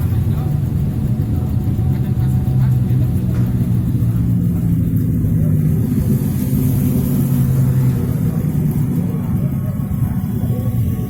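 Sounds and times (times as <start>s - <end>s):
large engine running: 0.0s - 11.0s.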